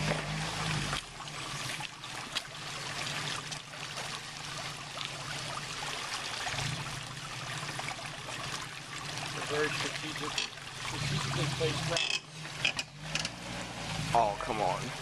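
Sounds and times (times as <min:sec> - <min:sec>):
creek water running over rocks: 0:00.0 - 0:15.0.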